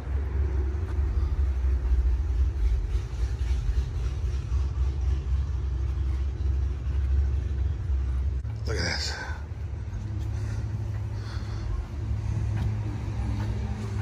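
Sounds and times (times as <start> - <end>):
low uneven rumble: 0.0 - 14.0.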